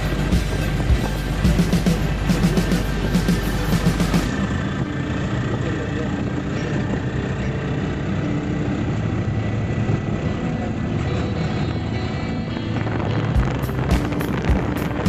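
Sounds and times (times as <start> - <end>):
van engine and road noise: 0.0 - 15.0.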